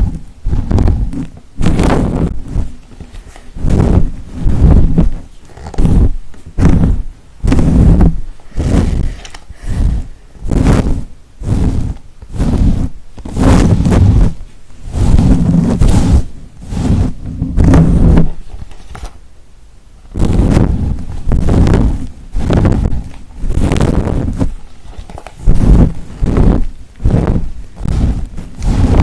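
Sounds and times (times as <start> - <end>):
rubbing swishes at microphone: 0.0 - 19.1, 20.1 - 29.0.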